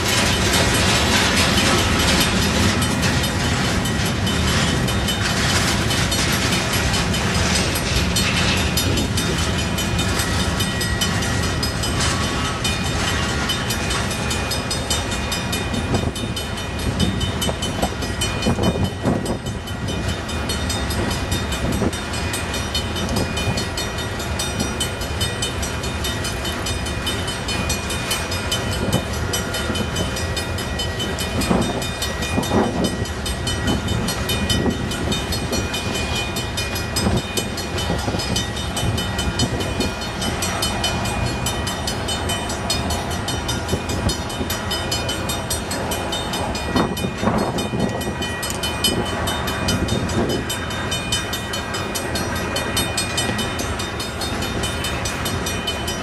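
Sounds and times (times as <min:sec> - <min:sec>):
train wheels clattering over rail joints: 0:00.0 - 0:56.0.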